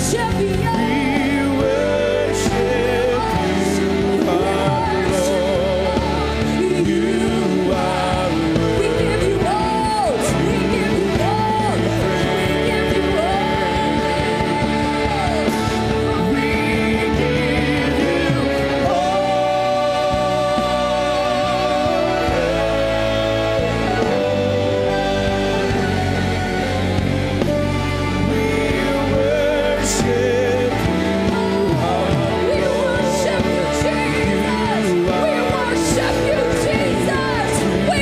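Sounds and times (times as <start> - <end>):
full band playing: 0.0 - 38.0
person singing with vibrato: 0.0 - 38.0.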